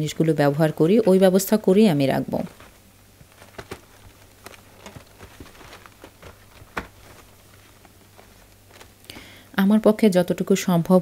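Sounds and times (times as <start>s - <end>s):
cloth rubbing cardboard: 0.0s - 9.2s.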